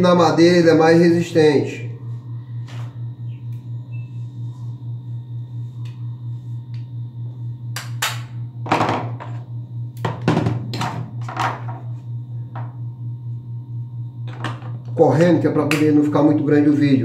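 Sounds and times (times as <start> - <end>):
pulsing low hum: 0.0 - 17.0.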